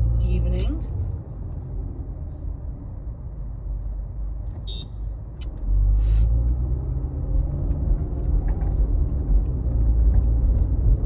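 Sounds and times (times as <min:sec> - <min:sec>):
car rumbling on the move: 0:00.0 - 0:11.0.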